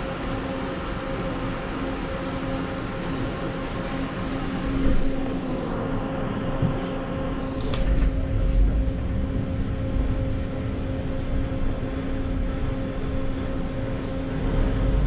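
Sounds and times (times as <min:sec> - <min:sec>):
constant hum: 0:00.0 - 0:15.0
tram running gear rumble: 0:00.0 - 0:15.0.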